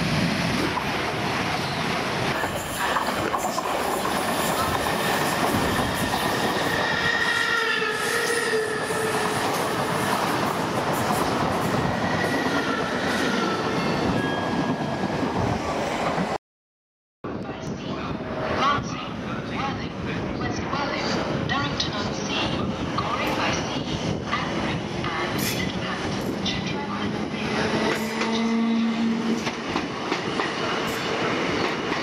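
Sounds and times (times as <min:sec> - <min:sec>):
train wheels rushing on rails: 0:00.0 - 0:16.4, 0:21.0 - 0:32.0.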